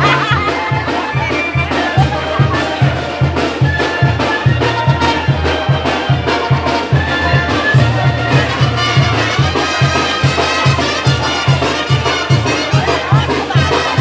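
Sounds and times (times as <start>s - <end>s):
brass band music: 0.0s - 14.0s.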